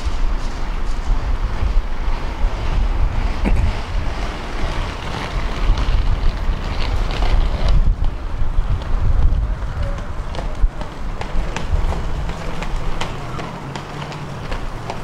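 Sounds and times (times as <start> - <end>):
street noise: 0.0 - 15.0
wind buffeting microphone: 0.0 - 15.0.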